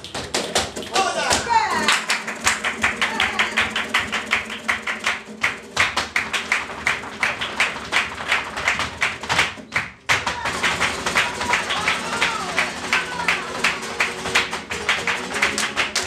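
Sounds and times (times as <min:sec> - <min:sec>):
flamenco guitar: 0:00.0 - 0:16.0
footwork on wooden stage: 0:00.0 - 0:16.0
rhythmic handclaps: 0:00.0 - 0:16.0.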